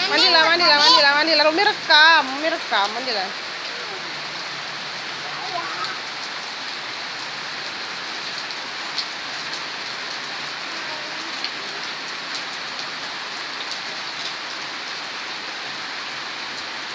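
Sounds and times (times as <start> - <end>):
steady rain hiss: 0.0 - 16.9.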